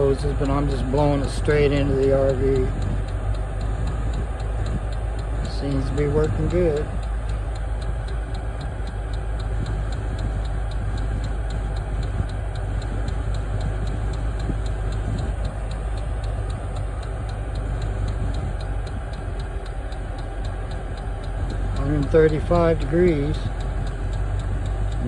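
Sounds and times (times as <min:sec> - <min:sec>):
fuel pump rapid ticking: 0:00.0 - 0:25.0
heater fan and burner hum: 0:00.0 - 0:25.0.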